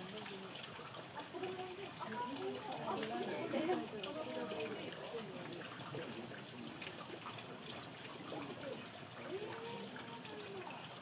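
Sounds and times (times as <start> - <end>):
rain falling: 0.0 - 11.0
water trickling and dripping: 0.0 - 11.0.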